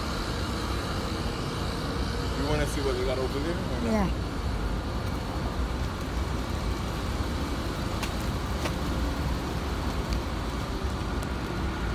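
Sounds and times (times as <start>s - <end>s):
traffic rumble: 0.0s - 11.9s.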